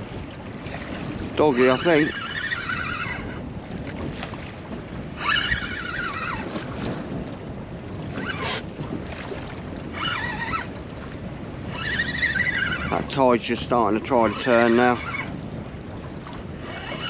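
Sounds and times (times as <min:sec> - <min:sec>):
choppy sea water: 0:00.0 - 0:17.0
wind on microphone: 0:00.0 - 0:17.0.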